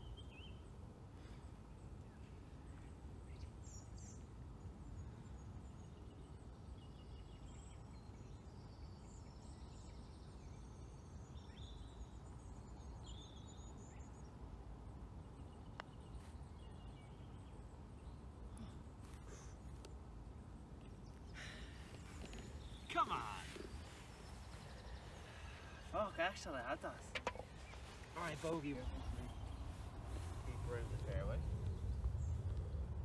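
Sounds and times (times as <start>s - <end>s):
small birds chirping and trilling: 0.0s - 14.5s, 20.8s - 33.0s
low background rumble: 0.0s - 33.0s.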